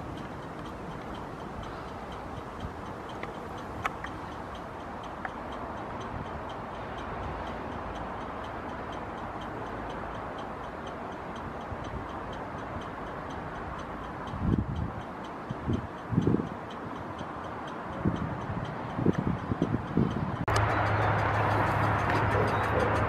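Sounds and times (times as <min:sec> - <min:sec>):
steady background hiss: 0:00.0 - 0:19.6
relay ticking: 0:00.0 - 0:23.0.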